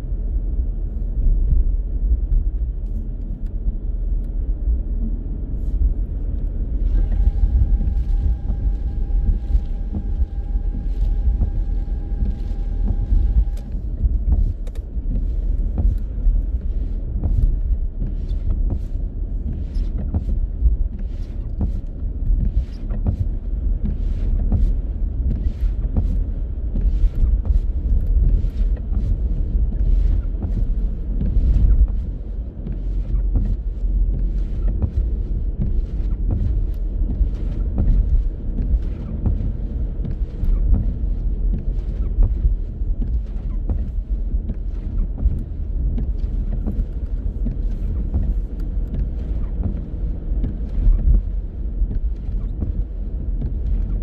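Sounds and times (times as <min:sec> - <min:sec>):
car road rumble: 0:00.0 - 0:54.0.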